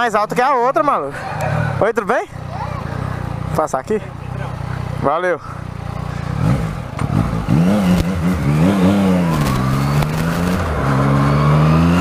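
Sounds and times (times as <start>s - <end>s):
motorcycle engine revving: 1.2s - 12.0s.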